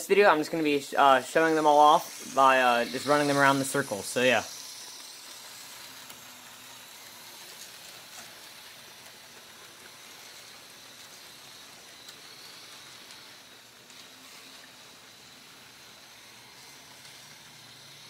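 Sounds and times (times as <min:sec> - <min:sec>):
model train wheels rumbling on rails: 0:00.0 - 0:18.0.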